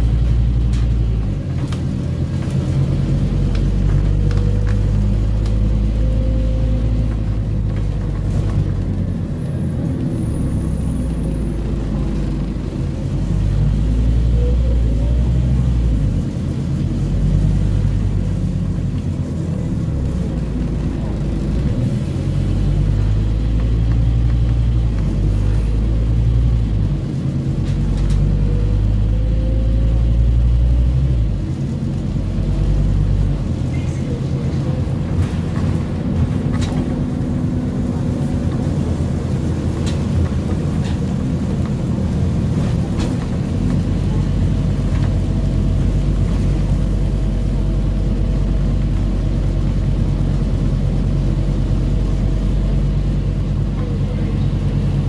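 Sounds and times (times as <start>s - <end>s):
bus diesel engine changing gear: 0.0s - 55.0s.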